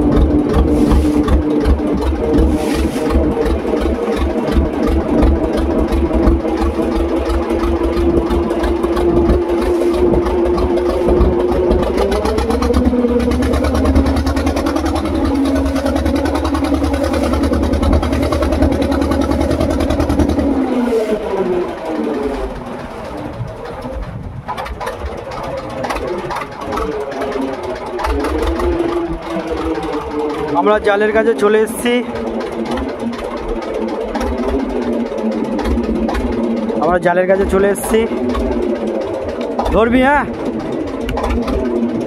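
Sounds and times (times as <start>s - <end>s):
motorboat engine running: 0.0s - 42.0s.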